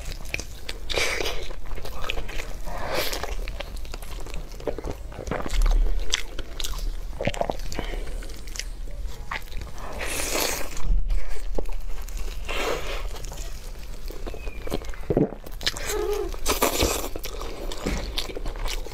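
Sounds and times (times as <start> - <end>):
biting and chewing meat: 0.0 - 18.9.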